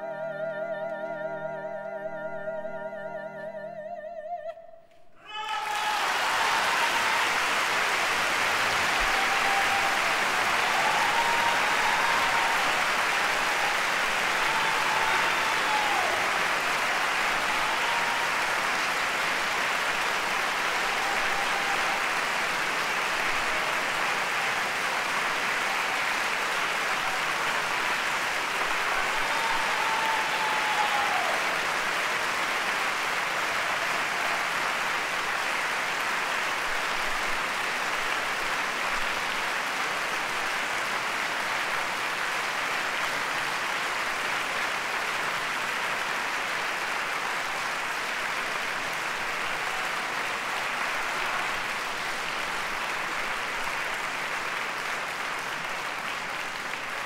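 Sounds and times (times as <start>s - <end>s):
audience applauding: 5.2s - 57.0s.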